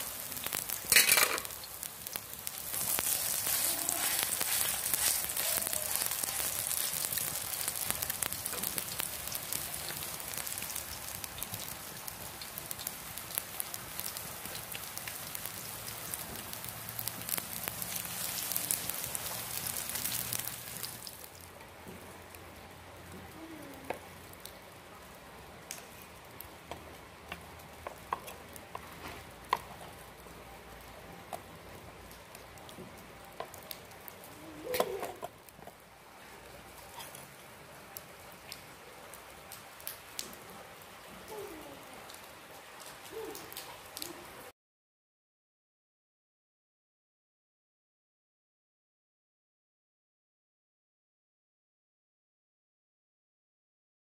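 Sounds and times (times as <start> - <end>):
meat sizzling in fat: 0.0 - 44.2
rain hissing: 0.0 - 44.5.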